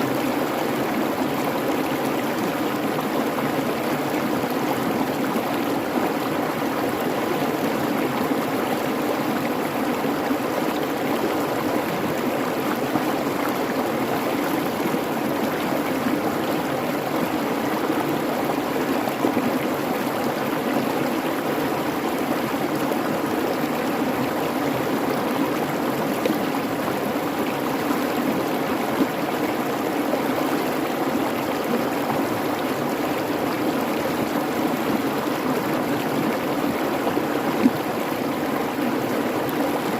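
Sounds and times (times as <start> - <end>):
creek babbling: 0.0 - 39.9.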